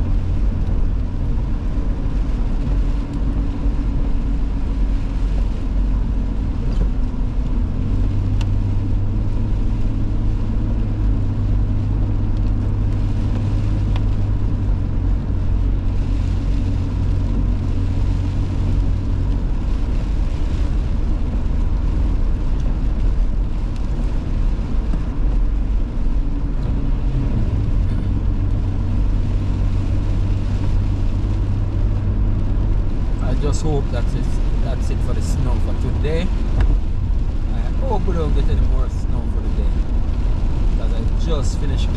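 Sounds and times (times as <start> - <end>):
car engine drone: 0.0 - 41.9
tyre and road noise: 0.0 - 41.9.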